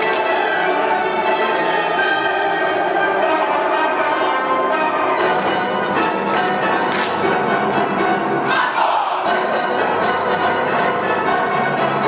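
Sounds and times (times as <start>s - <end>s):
orchestra playing loudly: 0.0s - 12.0s.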